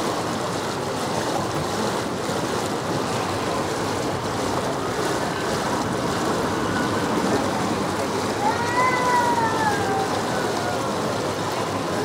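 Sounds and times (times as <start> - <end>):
water rushing along boat hull: 0.0 - 12.0.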